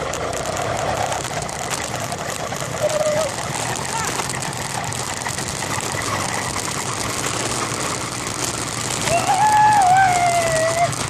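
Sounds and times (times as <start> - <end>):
small motorized bicycle engine: 0.0 - 11.0.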